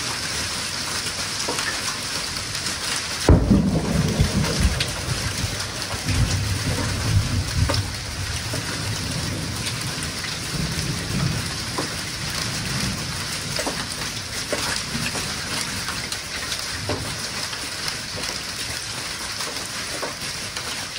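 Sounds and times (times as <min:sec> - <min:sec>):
hailstones clicking on hard surfaces: 0:00.0 - 0:20.9
rain hissing: 0:00.0 - 0:20.9.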